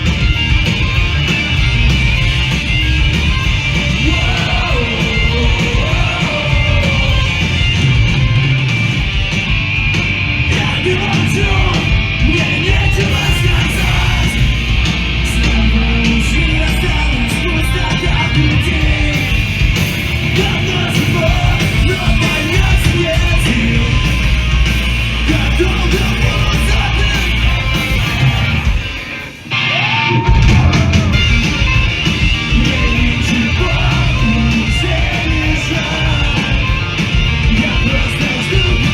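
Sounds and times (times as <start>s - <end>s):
drums: 0.0s - 38.9s
electric guitars: 0.0s - 38.9s.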